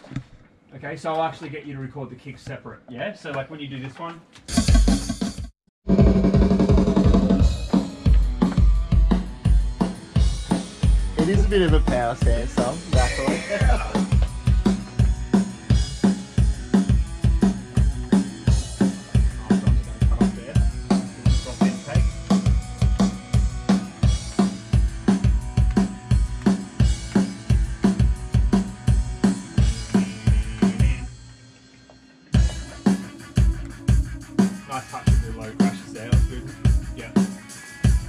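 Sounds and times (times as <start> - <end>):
drum kit playing rock beat: 4.5 - 38.0.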